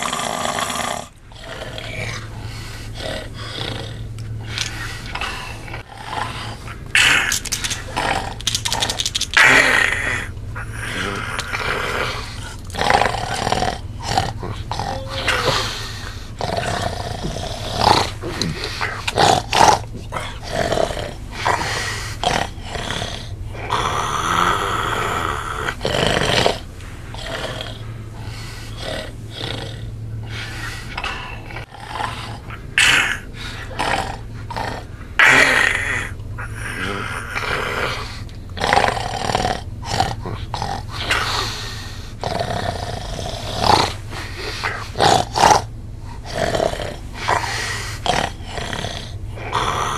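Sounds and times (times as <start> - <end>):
man snoring loudly: 0.0 - 49.9
steady low hum: 0.0 - 49.9.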